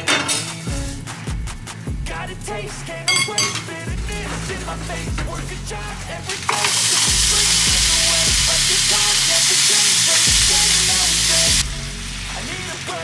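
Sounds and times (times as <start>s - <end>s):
background music with a beat: 0.0s - 13.0s
rice frying in oil sizzling: 0.0s - 13.0s.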